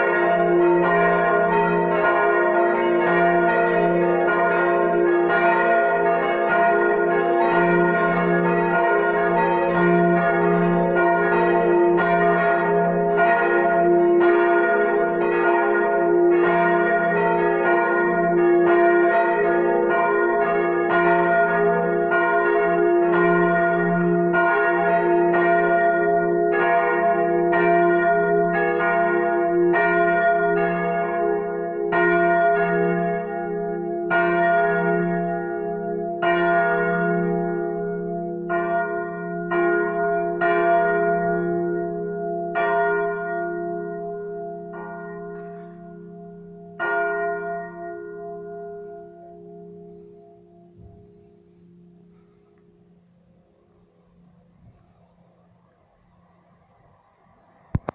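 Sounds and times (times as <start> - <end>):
church bells pealing: 0.0 - 55.2.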